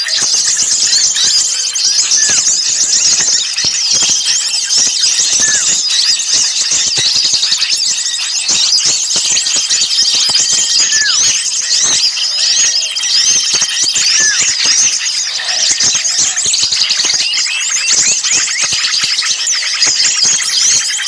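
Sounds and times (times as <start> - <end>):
songbirds chattering and twittering: 0.0 - 21.0.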